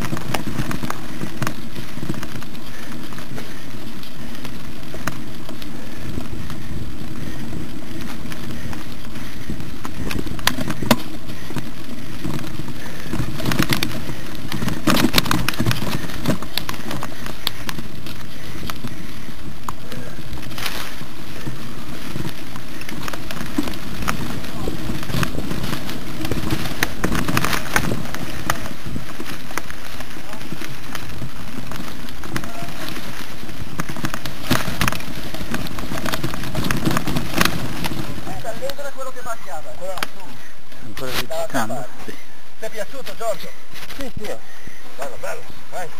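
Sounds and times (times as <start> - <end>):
bike rattles and knocks: 0.0 - 41.3
mountain bike riding rumble: 0.0 - 45.9.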